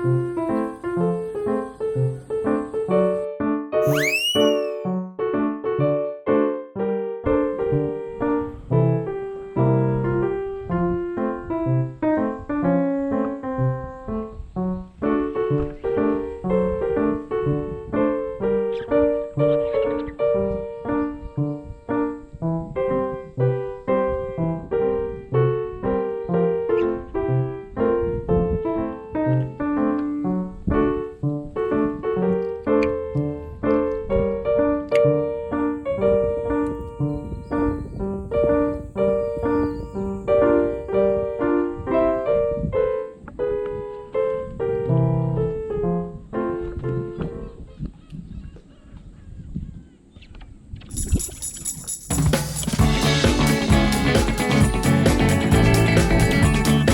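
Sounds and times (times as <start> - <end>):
piano tune: 0.0 - 47.6, 52.0 - 56.9.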